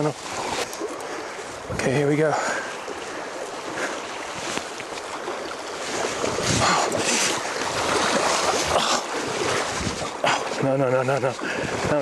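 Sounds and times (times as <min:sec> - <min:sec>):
fast river water rushing: 0:00.0 - 0:12.0.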